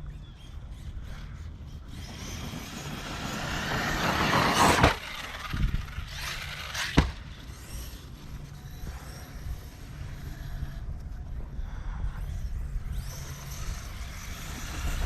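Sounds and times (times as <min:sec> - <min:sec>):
rc truck motor running: 0:00.0 - 0:15.0.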